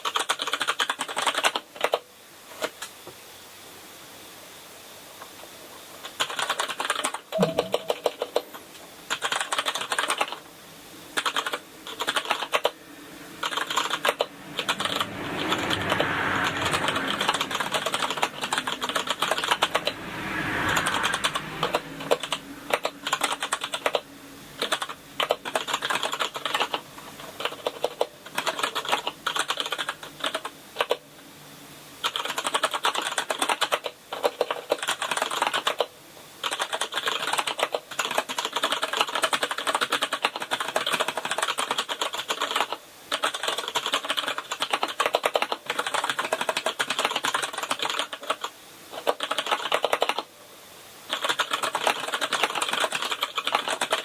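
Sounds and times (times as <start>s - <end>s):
mechanical keyboard typing: 0.0s - 2.8s, 6.1s - 8.5s, 9.1s - 10.4s, 11.2s - 12.8s, 13.4s - 20.0s, 20.7s - 24.0s, 24.6s - 31.0s, 32.0s - 50.3s, 51.1s - 54.0s.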